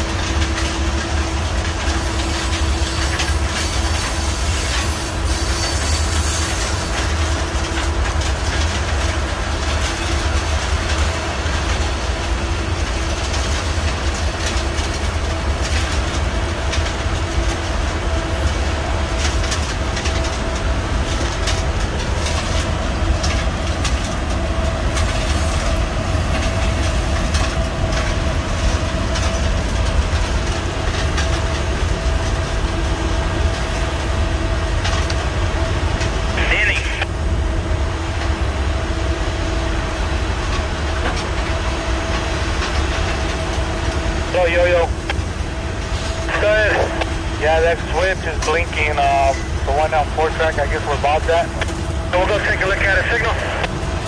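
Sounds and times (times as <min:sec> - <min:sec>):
clickety-clack over rail joints: 0:00.0 - 0:54.0
train wheels rumbling on rail: 0:00.0 - 0:54.0.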